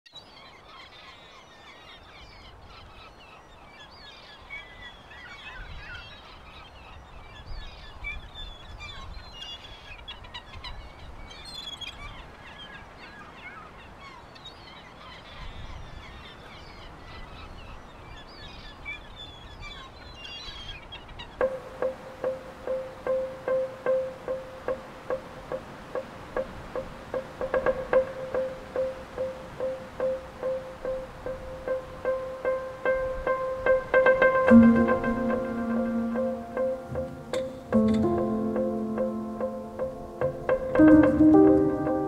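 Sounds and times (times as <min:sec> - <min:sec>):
small birds chirping: 0:00.1 - 0:42.0.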